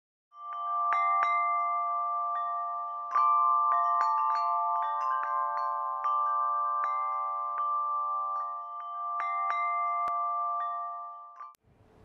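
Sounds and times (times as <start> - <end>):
chime-like struck notes music: 0.3 - 11.6.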